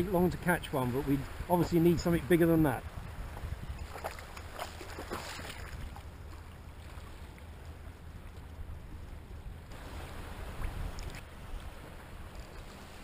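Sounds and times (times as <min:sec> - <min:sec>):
low wind rumble on microphone: 0:00.0 - 0:13.0
shallow water splashing and lapping: 0:00.0 - 0:13.0.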